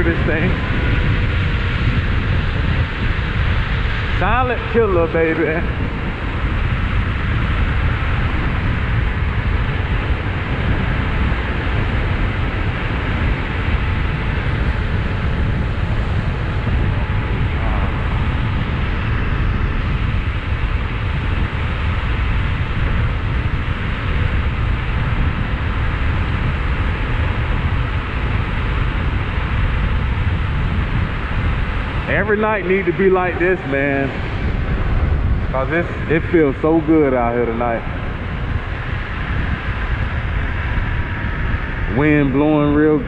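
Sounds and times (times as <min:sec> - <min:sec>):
road noise: 0:00.0 - 0:43.0
wind rushing on microphone: 0:00.0 - 0:43.0.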